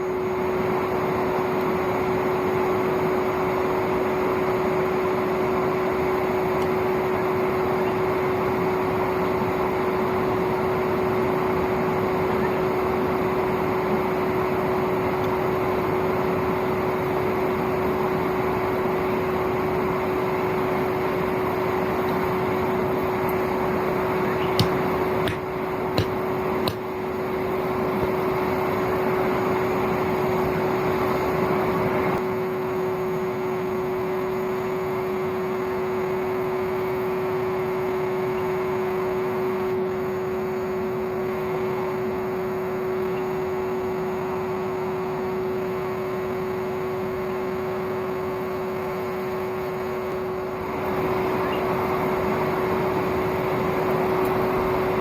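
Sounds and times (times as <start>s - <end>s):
vacuum motor whine: 0.0s - 55.0s.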